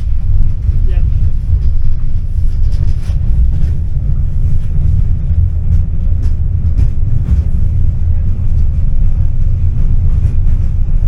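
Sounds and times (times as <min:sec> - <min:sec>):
tram rumbling in motion: 0:00.0 - 0:11.0.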